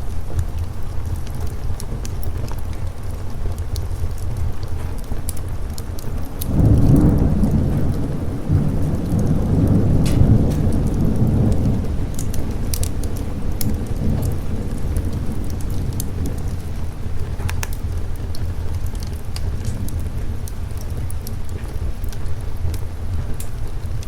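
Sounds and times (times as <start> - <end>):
heavy rain downpour: 0.0 - 24.0
wood fire crackling: 0.0 - 24.0
thunder rolling: 0.6 - 24.0.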